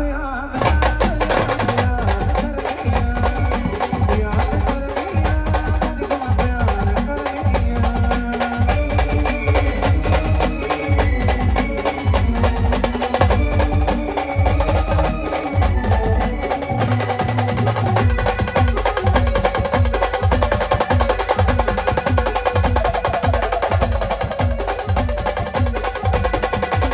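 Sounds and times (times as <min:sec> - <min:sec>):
fast steady drumming: 0:00.6 - 0:26.9.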